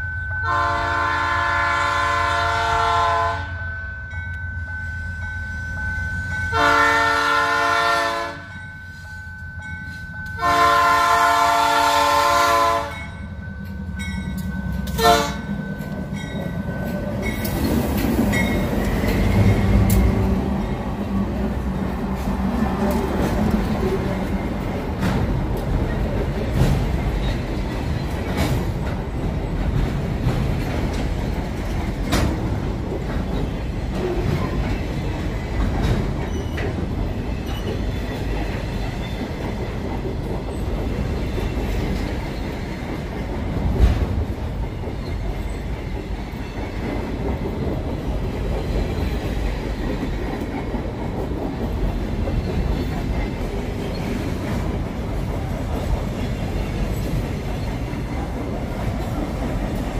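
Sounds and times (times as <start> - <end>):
freight wagons rumbling past: 10.8 - 59.9.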